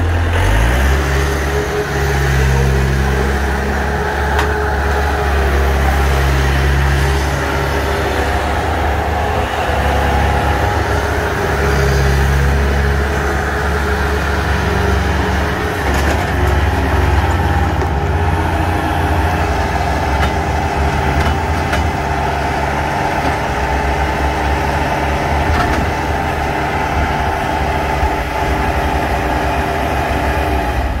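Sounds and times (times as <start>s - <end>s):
diesel engine under load: 0.0s - 31.0s
steady mechanical whine: 1.4s - 31.0s.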